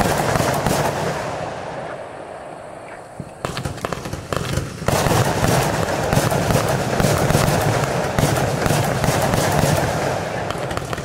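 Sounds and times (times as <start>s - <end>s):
firework cake bangs and crackle: 0.0s - 1.6s, 3.2s - 11.0s.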